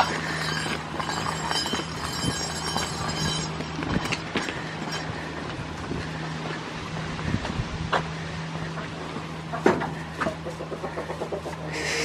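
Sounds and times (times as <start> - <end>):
hooves clicking on brick paving: 0.0 - 12.0
steady low hum: 0.0 - 12.0.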